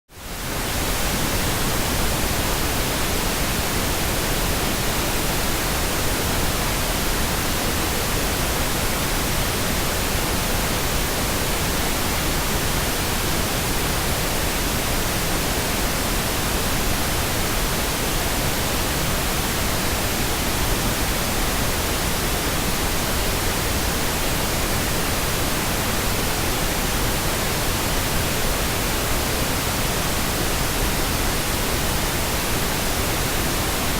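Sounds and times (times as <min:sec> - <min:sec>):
pink noise hiss: 0:00.2 - 0:33.9.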